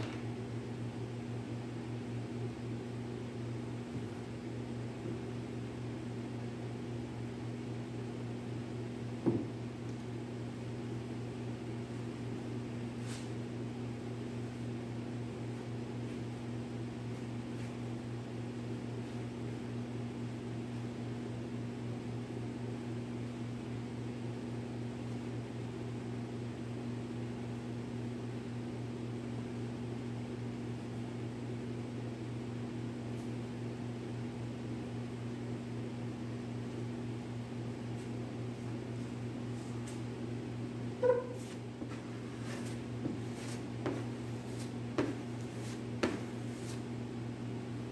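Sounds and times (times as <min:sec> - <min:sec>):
electrical hum with fan hiss: 0:00.0 - 0:47.9.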